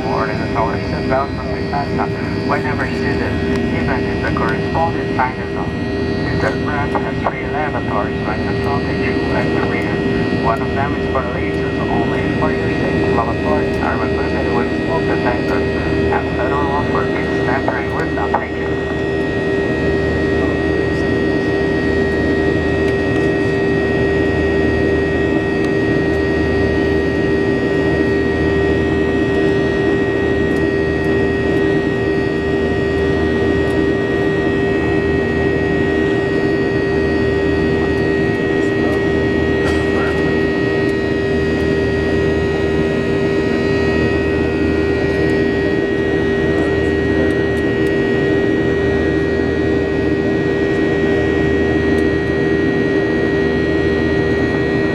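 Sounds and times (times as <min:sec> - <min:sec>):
airliner cabin jet engine hum: 0:00.0 - 0:54.9
constant whine: 0:00.0 - 0:54.9.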